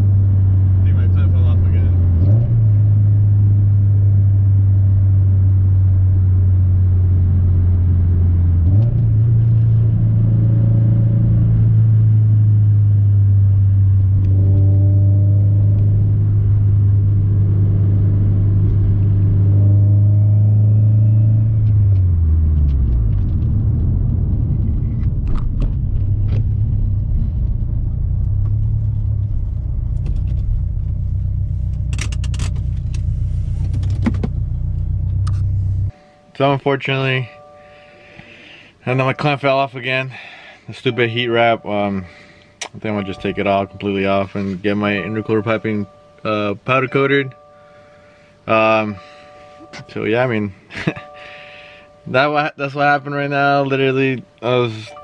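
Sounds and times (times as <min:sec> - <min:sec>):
car engine and exhaust drone: 0:00.0 - 0:55.0.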